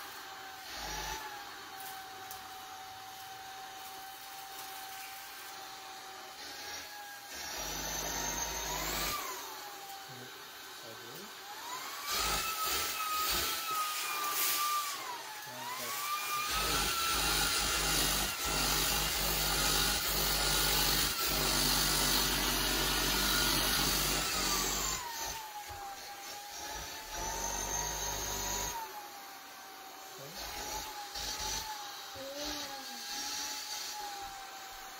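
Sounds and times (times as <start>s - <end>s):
vacuum motor whine: 0.0s - 34.9s.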